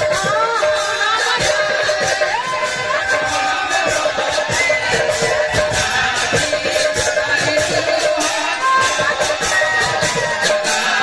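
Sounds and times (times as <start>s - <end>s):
barrel drums: 0.0s - 11.0s.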